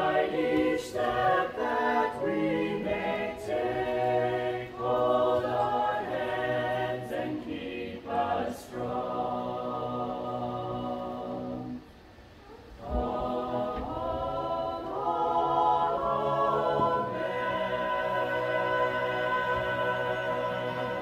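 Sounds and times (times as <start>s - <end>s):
group singing a cappella: 0.0s - 12.1s, 12.8s - 21.0s.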